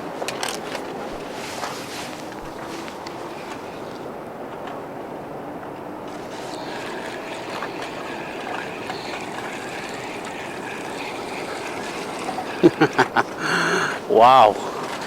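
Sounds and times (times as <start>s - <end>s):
ocean waves: 0.0s - 15.0s
wind: 0.0s - 15.0s.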